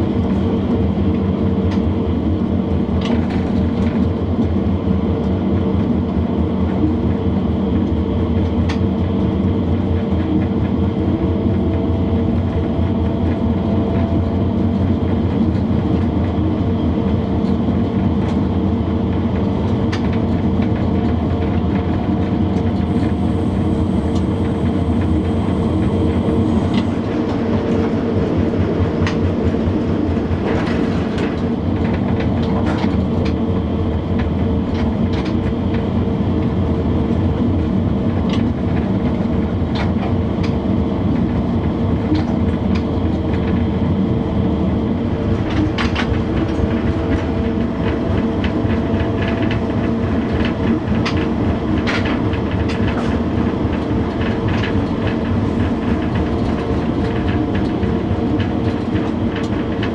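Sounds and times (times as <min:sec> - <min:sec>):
locomotive hum and rumble: 0:00.0 - 0:59.9.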